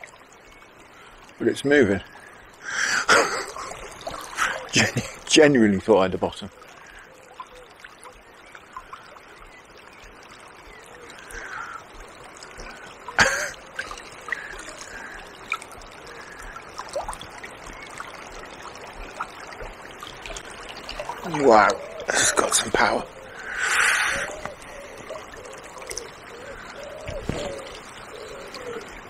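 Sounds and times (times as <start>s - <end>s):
river water rippling: 0.0s - 29.0s.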